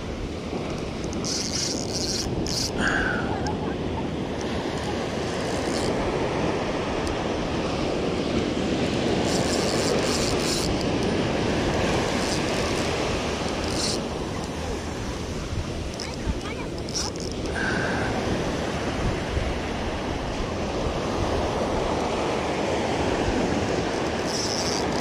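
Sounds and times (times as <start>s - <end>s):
surf washing against rocks: 0.0s - 25.0s
wind rushing over microphone: 0.0s - 25.0s.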